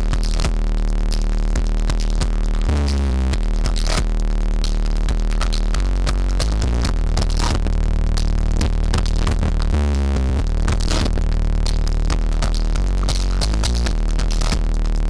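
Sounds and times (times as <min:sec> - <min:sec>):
loud electronic dance music: 0:00.0 - 0:15.0.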